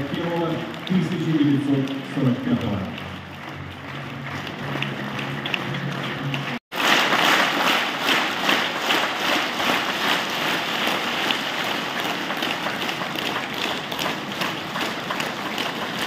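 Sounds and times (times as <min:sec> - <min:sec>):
large audience applauding: 0:00.0 - 0:16.0.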